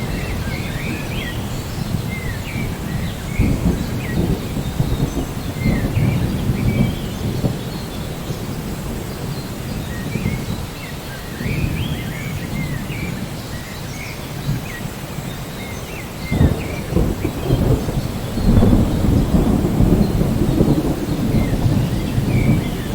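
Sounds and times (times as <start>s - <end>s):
birds chirping: 0.0s - 22.9s
low rolling thunder: 0.0s - 22.9s
steady rain: 0.0s - 22.9s.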